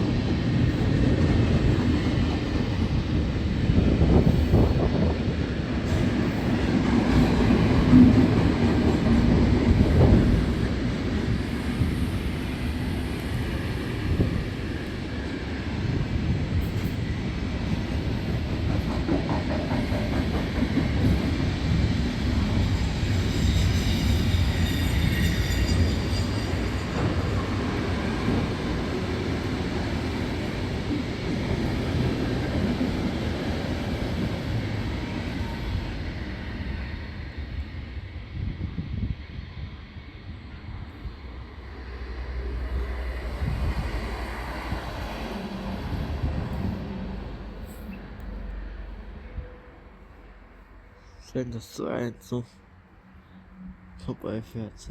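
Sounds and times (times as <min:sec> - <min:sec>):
train rumbling past on rails: 0:00.0 - 0:54.9.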